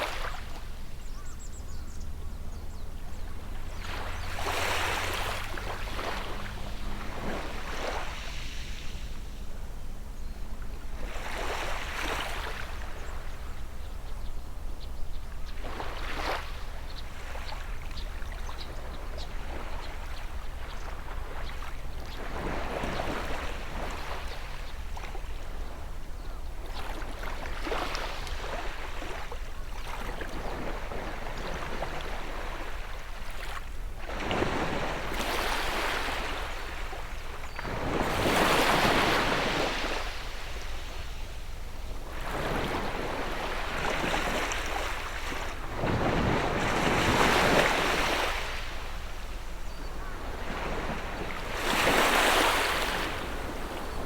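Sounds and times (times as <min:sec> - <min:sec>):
sea waves breaking on shore: 0:00.0 - 0:01.6, 0:02.3 - 0:13.8, 0:15.5 - 0:54.0.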